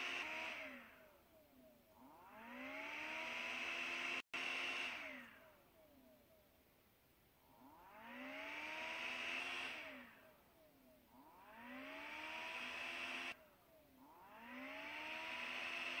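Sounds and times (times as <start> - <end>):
engine revving: 0.0 - 5.9, 7.4 - 16.0.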